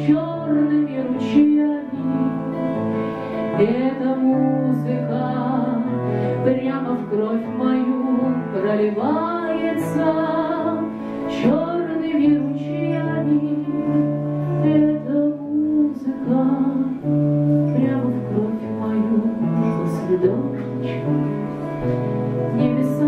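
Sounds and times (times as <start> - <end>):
acoustic guitar: 0.0 - 23.0
woman singing: 0.0 - 23.0.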